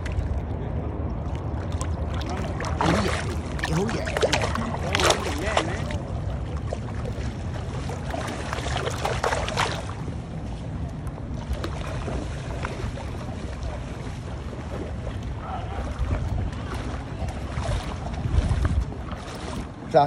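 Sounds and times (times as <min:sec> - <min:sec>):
water sloshing and splashing: 0:00.0 - 0:20.0
wind buffeting microphone: 0:00.0 - 0:20.0.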